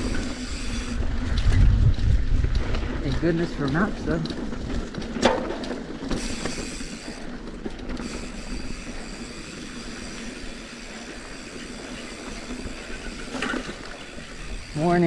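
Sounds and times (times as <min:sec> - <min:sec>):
bike tyre noise and rattling: 0:00.0 - 0:15.0.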